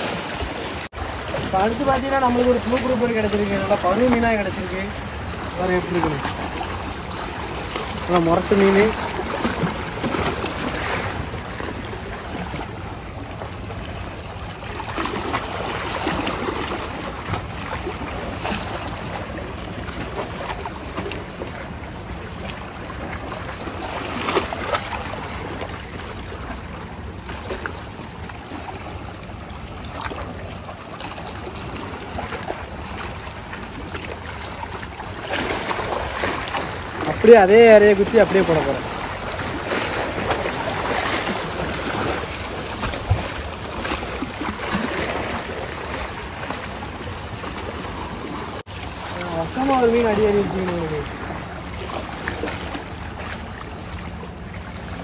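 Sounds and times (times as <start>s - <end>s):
sea waves washing against rocks: 0.0s - 55.0s.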